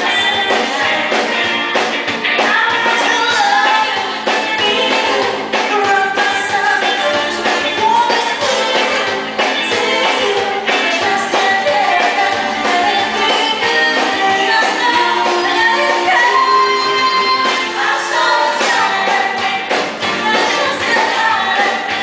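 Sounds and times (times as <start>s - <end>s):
woman singing: 0.0s - 1.6s, 2.3s - 22.0s
drums: 0.0s - 22.0s
guitars: 0.0s - 22.0s.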